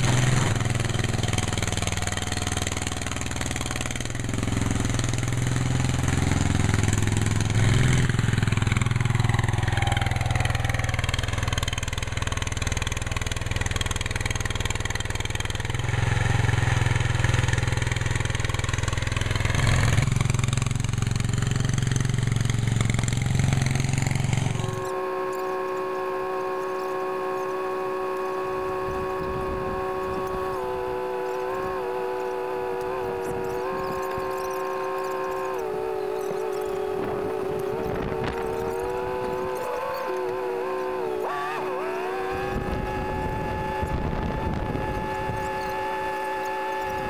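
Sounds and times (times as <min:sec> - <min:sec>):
engine running under changing load: 0:00.0 - 0:47.0
steady multi-tone whine: 0:00.0 - 0:47.0.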